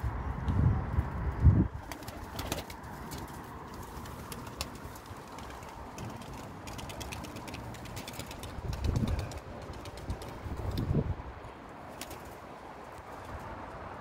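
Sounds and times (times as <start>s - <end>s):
wind rumbling: 0.0s - 14.0s.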